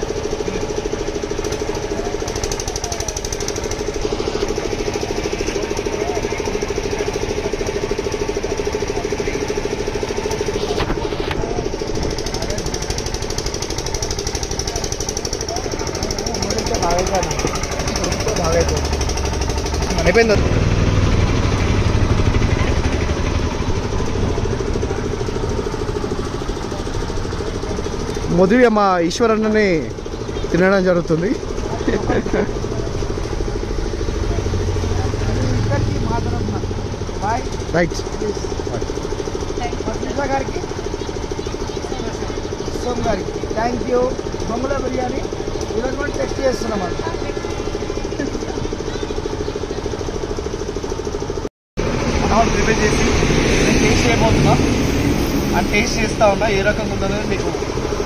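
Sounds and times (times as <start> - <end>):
engine throbbing: 0.0 - 58.0.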